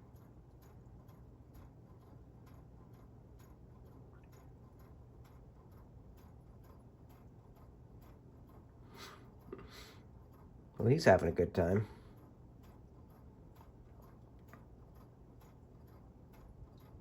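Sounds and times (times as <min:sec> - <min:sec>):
faint light ticks: 0:00.0 - 0:08.8, 0:12.1 - 0:17.0
low steady hum: 0:00.0 - 0:17.0.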